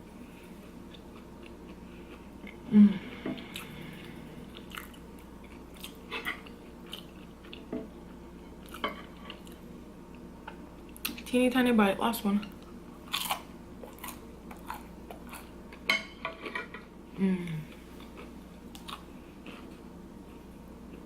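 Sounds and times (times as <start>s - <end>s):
person chewing: 0.6s - 2.7s, 3.4s - 11.2s, 12.9s - 16.6s, 17.7s - 21.0s.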